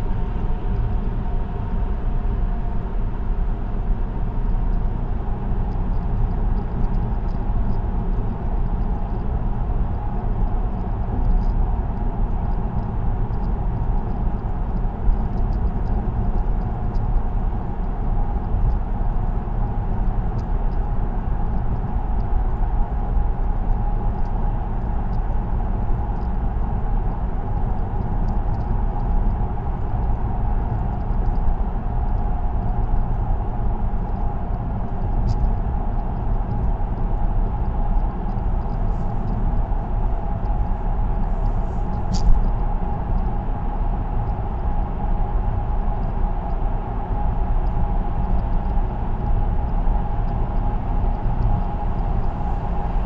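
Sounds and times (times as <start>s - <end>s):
constant hum: 0.0s - 53.0s
car tyre and road noise: 4.2s - 53.0s.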